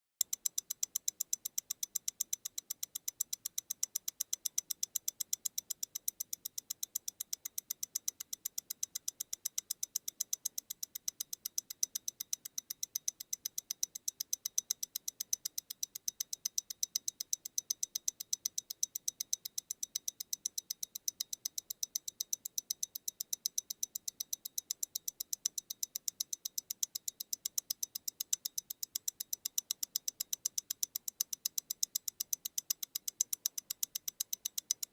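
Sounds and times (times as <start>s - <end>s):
wristwatch ticking: 0.2s - 34.9s.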